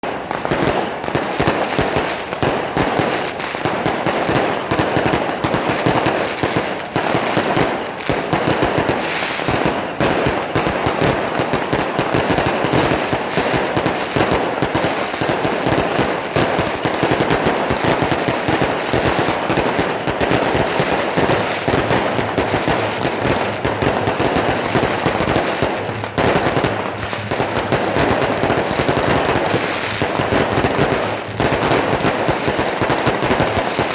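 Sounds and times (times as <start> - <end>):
firecrackers crackling: 0.0 - 33.9.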